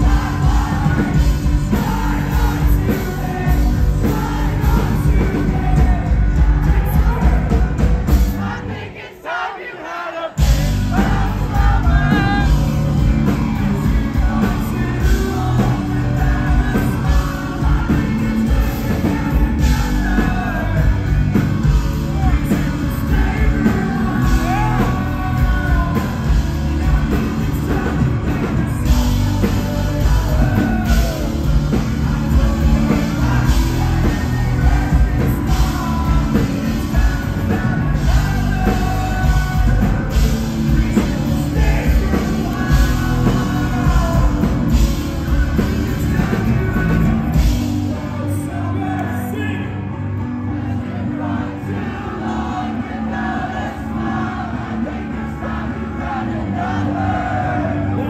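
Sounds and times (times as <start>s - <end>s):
crowd: 0.0s - 58.0s
live rock band with singer: 0.0s - 58.0s.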